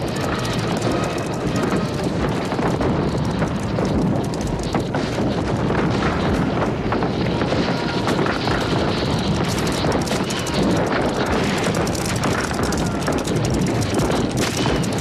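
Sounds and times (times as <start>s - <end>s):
horses galloping: 0.0s - 15.0s.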